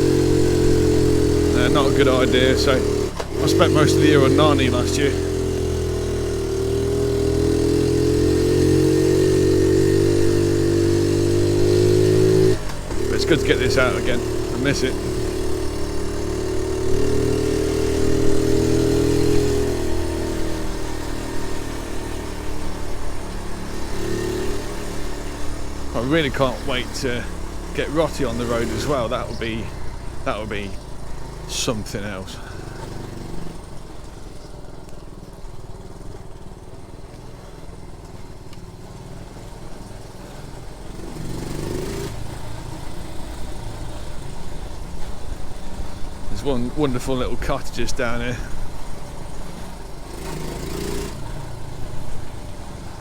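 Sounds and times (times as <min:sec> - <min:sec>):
small motorbike engine running: 0:00.0 - 0:53.0.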